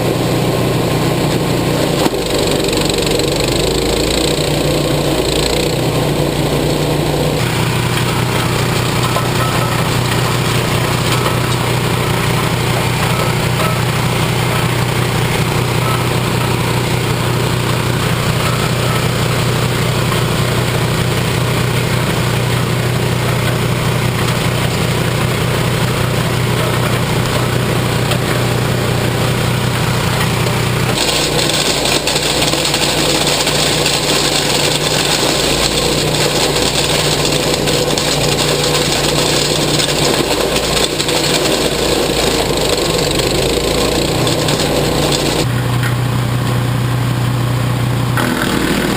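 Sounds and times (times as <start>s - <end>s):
gasoline engine running: 0.0s - 48.9s.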